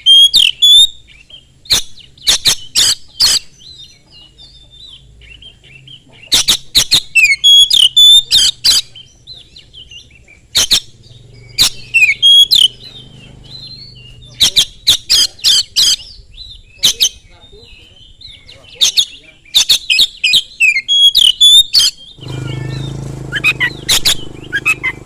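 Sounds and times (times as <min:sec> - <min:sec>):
bird singing rasping and whistling: 0:00.0 - 0:25.0.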